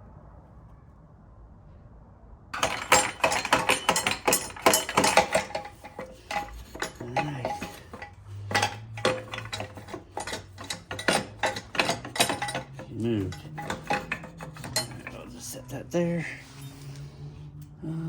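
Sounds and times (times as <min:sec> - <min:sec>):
metal tools clinking and clattering: 0:02.6 - 0:17.1.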